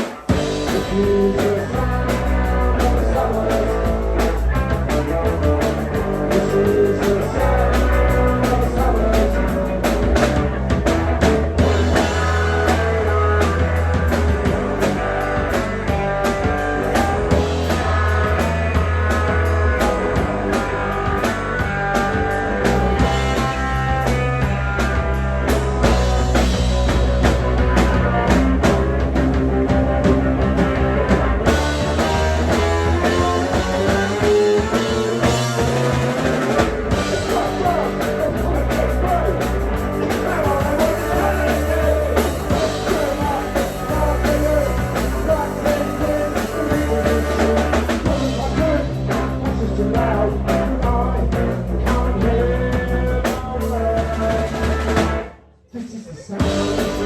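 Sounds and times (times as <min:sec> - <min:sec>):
rock band playing punk: 0:00.0 - 0:57.0.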